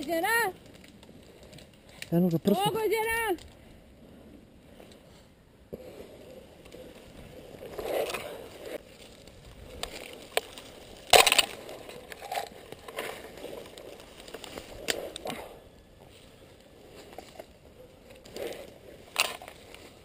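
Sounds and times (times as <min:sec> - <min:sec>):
dry weeds rustling and crunching: 0:00.0 - 0:03.7, 0:04.6 - 0:20.0.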